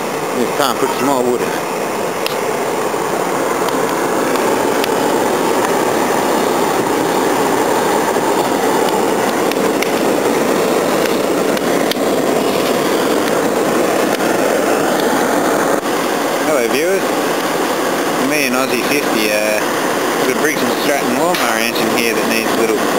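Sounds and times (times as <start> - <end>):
blower fan rushing into fire: 0.0 - 22.9
faint fire crackles: 0.0 - 22.9.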